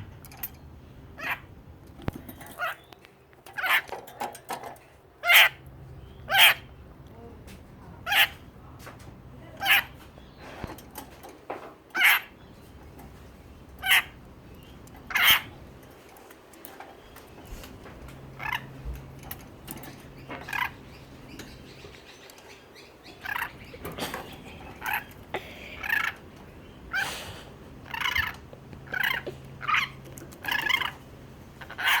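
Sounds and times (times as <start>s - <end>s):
pet bird chirping: 0.8s - 3.9s, 5.2s - 6.9s, 8.0s - 8.5s, 9.4s - 10.7s, 11.9s - 16.0s, 16.8s - 32.0s.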